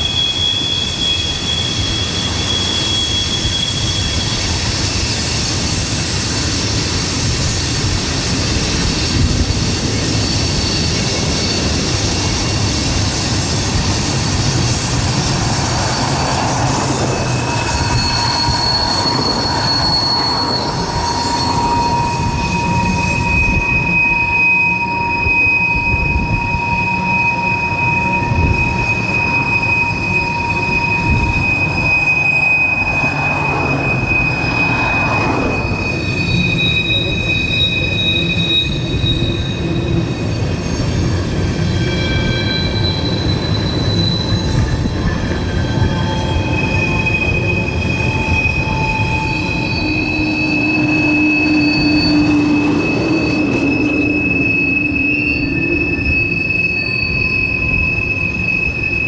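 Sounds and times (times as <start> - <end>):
railcars rumbling: 0.0 - 59.0
train wheels squealing: 0.0 - 59.0.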